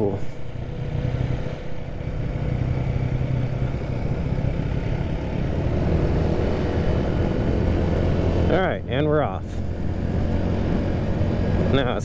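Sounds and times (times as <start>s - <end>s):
motorcycle engine running: 0.4s - 12.0s.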